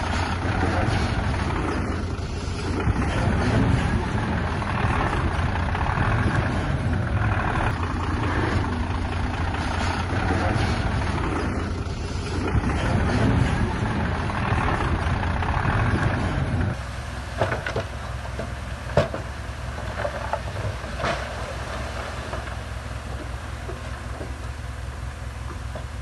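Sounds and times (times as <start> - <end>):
diesel machinery running: 0.0 - 26.0.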